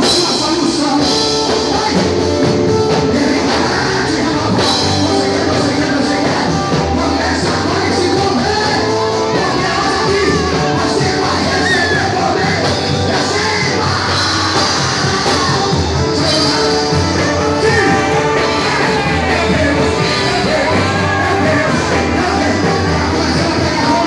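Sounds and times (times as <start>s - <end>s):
congregation singing: 0.0s - 24.0s
man singing into microphone: 0.0s - 24.0s.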